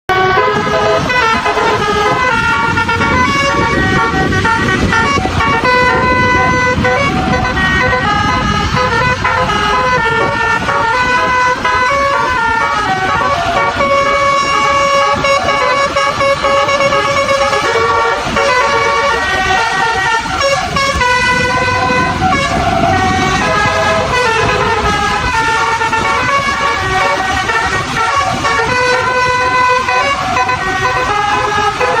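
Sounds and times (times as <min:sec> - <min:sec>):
air horn trumpets playing melody: 0:00.1 - 0:32.0.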